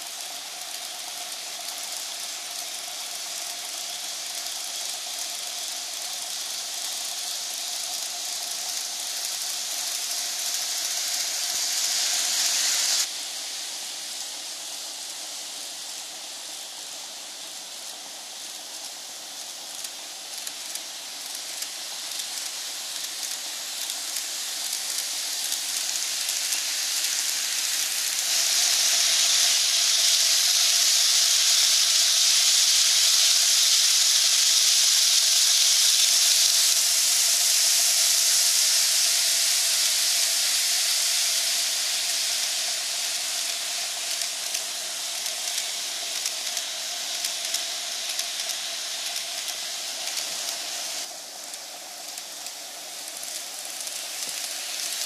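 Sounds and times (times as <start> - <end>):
model train rolling hiss: 0.0 - 55.0
wheels clicking on rails: 0.0 - 55.0.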